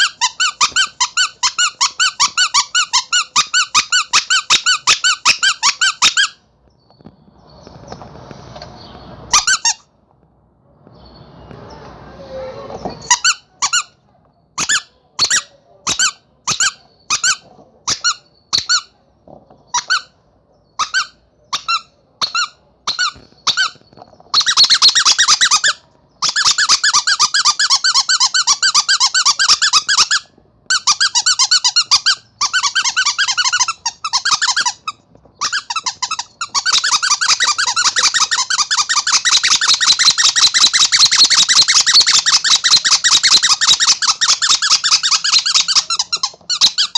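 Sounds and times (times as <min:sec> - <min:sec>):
squeaky toy squeaking: 0:00.0 - 0:06.4, 0:09.3 - 0:09.9, 0:12.3 - 0:14.0, 0:14.6 - 0:19.0, 0:19.7 - 0:46.9.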